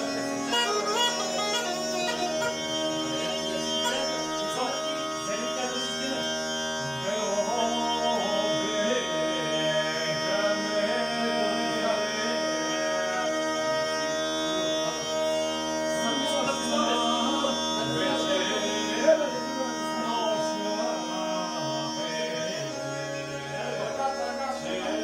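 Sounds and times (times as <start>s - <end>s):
bagpipe folk tune with drone: 0.0s - 25.0s.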